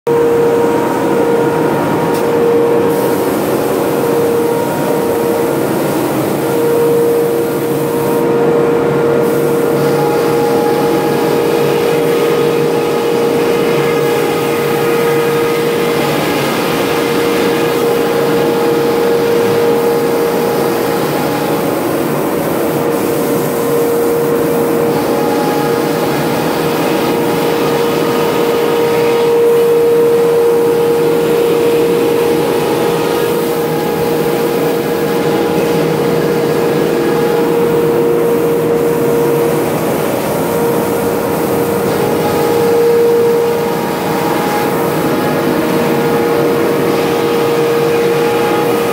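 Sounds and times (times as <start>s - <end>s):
router spindle whine: 0.1s - 22.9s, 23.6s - 48.9s.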